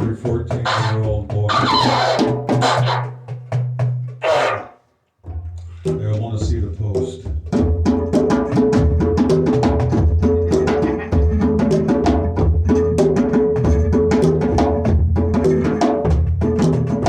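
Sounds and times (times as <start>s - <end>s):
hand drums: 0.0s - 4.4s, 5.2s - 17.0s.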